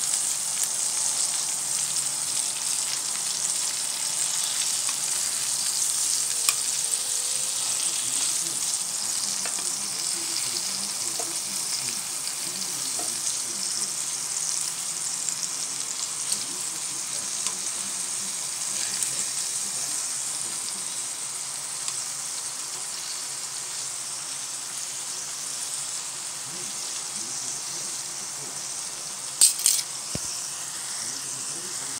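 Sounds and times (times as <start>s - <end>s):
meat sizzling in hot oil: 0.0s - 31.9s.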